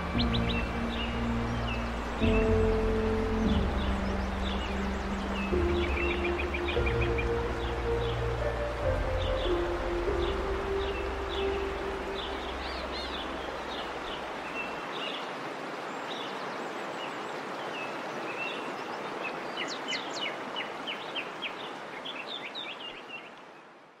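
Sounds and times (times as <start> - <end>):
small birds chirping: 0.0 - 23.7.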